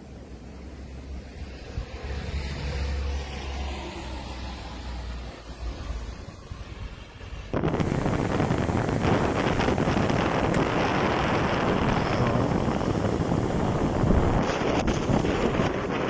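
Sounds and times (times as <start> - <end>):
wind blowing on microphone: 1.2 - 16.0.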